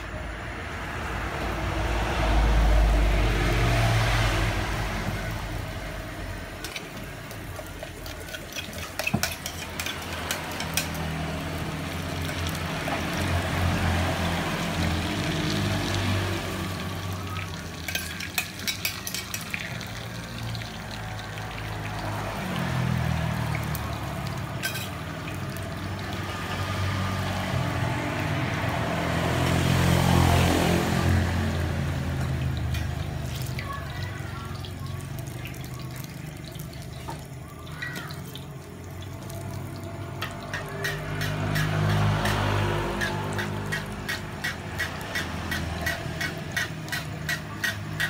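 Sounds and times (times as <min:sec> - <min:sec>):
food sizzling in hot oil: 0:01.9 - 0:48.0.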